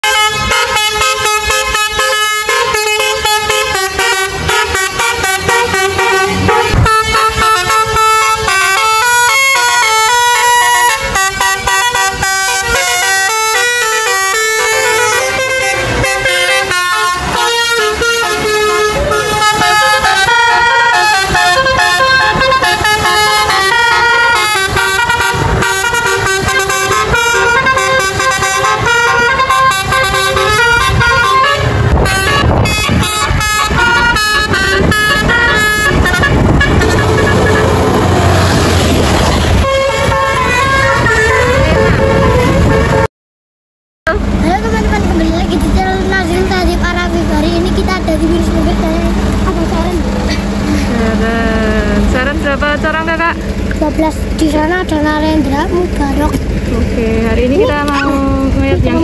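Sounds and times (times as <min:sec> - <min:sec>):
melodic bus air horns: 0:00.0 - 0:43.1, 0:48.4 - 0:53.7.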